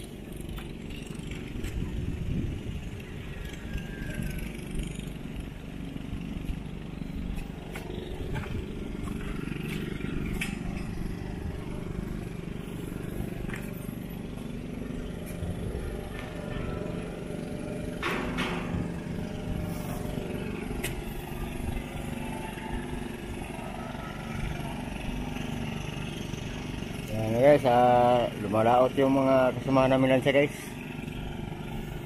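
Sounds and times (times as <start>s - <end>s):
engine running steadily: 0.0s - 32.0s.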